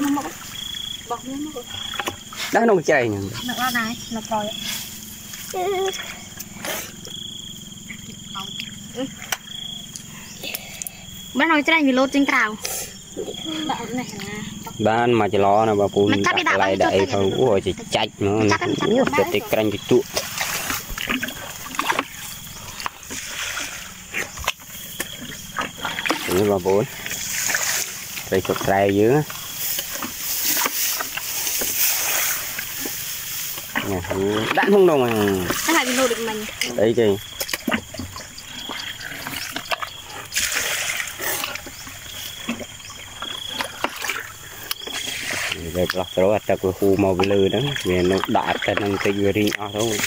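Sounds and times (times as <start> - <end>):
muddy water splashing: 0.0 - 50.0.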